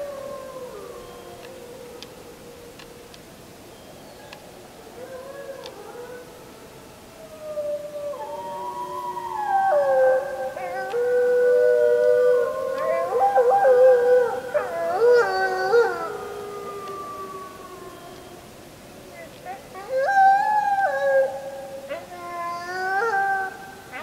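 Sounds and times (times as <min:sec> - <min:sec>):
wolves howling: 0:00.0 - 0:03.1, 0:04.7 - 0:18.6, 0:19.5 - 0:24.0.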